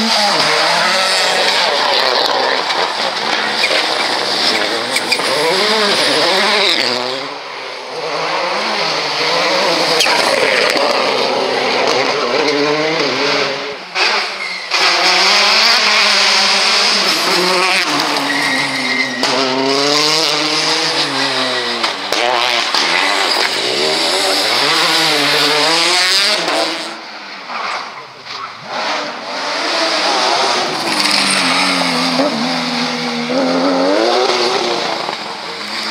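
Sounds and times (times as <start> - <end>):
rally car engines revving: 0.0 - 35.9.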